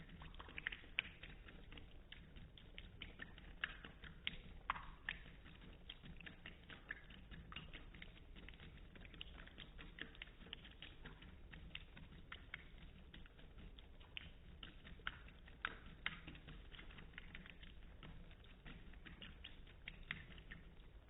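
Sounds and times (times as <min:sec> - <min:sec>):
cat lapping water: 0:00.0 - 0:21.0.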